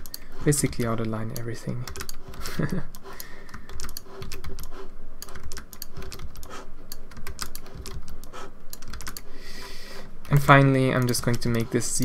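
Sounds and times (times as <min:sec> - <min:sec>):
keyboard keys clicking: 0:00.0 - 0:09.3, 0:10.2 - 0:11.7.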